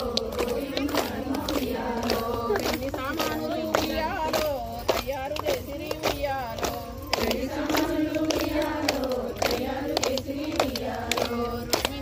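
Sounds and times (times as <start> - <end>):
hand claps: 0.0 - 12.0
women singing folk song: 0.0 - 12.0.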